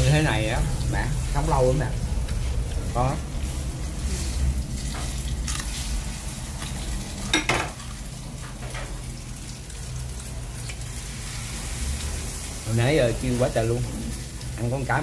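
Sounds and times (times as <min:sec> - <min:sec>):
fritters sizzling in hot oil: 0:00.0 - 0:15.0.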